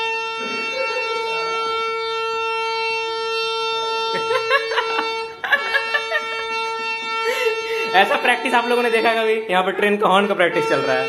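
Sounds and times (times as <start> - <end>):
harmonium holding a reed note: 0.0 - 11.0.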